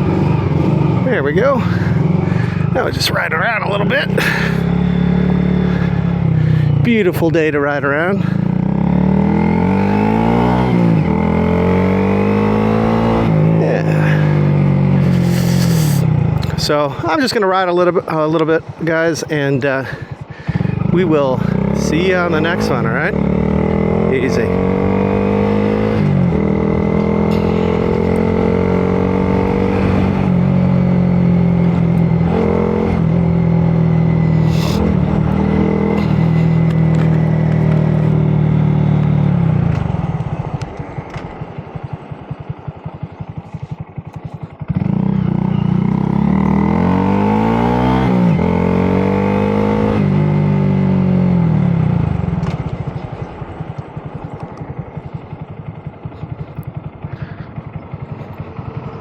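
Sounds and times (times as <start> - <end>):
small motorcycle engine: 0.0 - 16.6, 19.8 - 59.0.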